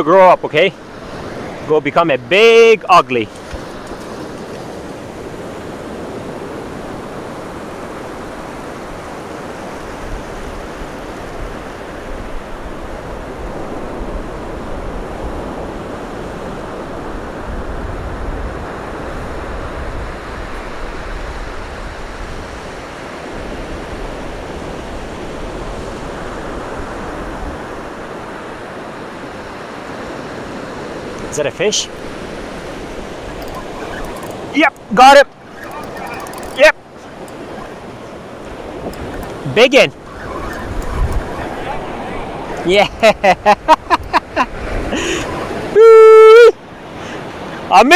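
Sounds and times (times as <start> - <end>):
waves rushing: 0.0 - 47.9.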